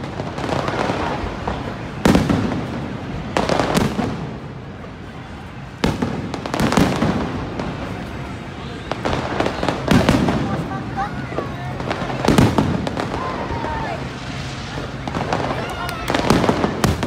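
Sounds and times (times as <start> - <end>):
firework bangs echoing: 0.0 - 17.0.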